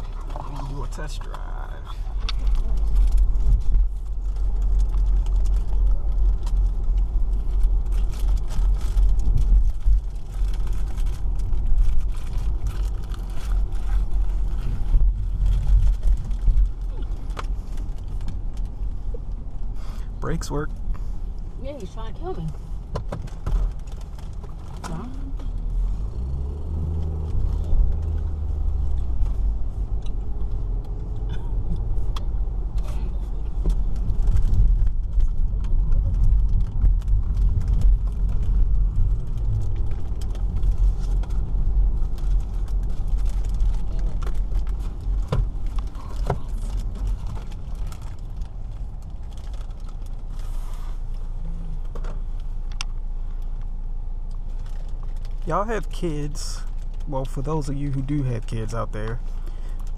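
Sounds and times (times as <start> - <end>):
car engine and tyre rumble: 0.0 - 59.9
small clicks and rattles: 2.2 - 19.7, 21.6 - 50.5, 51.1 - 58.3.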